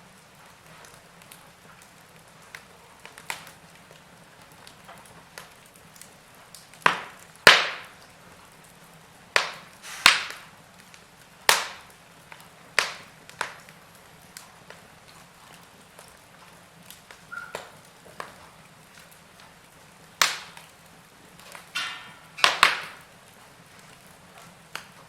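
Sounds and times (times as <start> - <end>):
logs crackling in a fireplace: 0.0 - 25.0.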